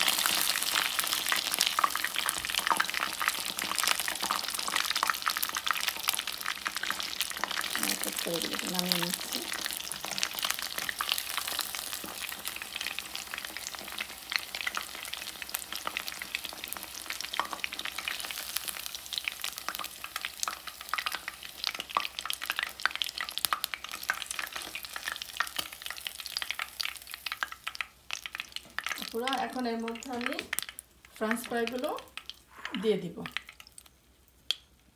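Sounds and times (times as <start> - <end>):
fish frying in hot oil: 0.0 - 34.9.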